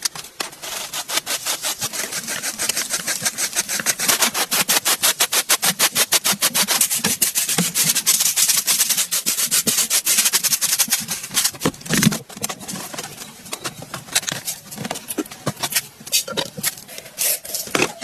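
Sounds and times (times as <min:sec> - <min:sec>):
food scraping by hand: 0:00.0 - 0:18.0.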